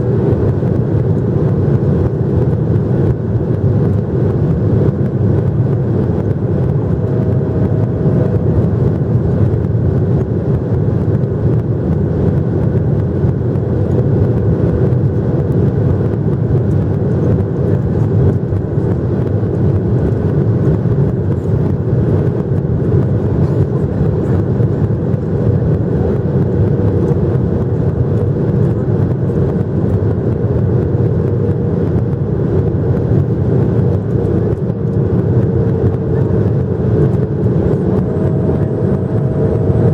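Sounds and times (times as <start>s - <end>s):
airplane cabin drone: 0.0s - 39.9s
faint steady hum: 0.0s - 39.9s.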